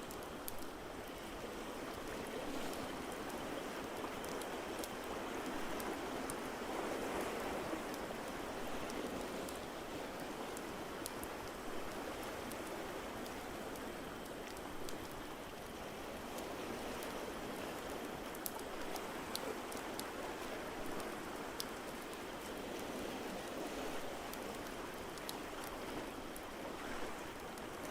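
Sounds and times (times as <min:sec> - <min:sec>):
rushing water: 0:00.0 - 0:27.9.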